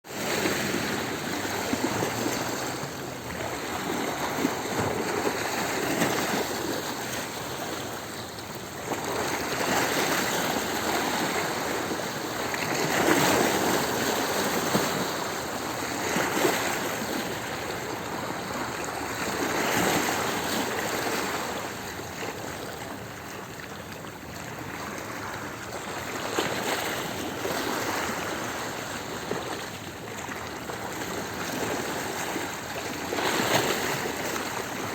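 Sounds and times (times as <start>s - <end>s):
waves washing over stones: 0.1s - 34.9s.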